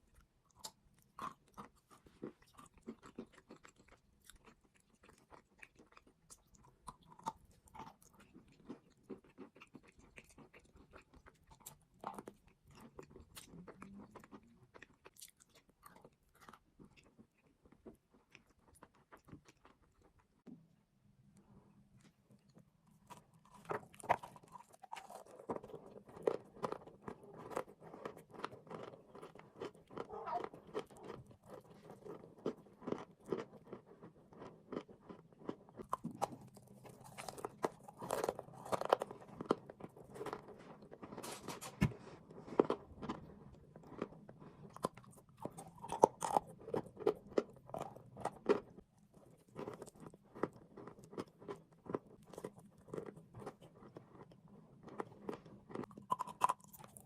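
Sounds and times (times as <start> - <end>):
person chewing crunchy mineral: 0.0 - 20.7, 21.3 - 57.0.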